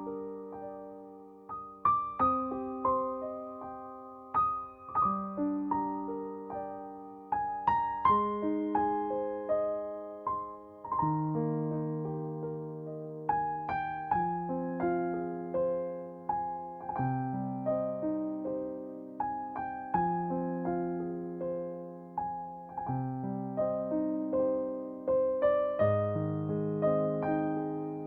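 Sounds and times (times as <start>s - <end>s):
slow gentle solo piano: 0.0s - 28.0s.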